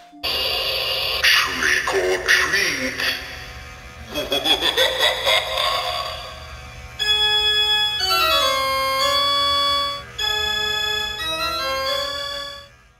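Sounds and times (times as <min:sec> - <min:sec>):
organ music: 0:00.0 - 0:12.9.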